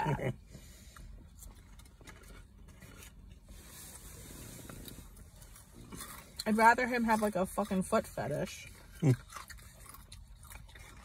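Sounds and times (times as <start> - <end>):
low rumble inside car: 0.0 - 11.0.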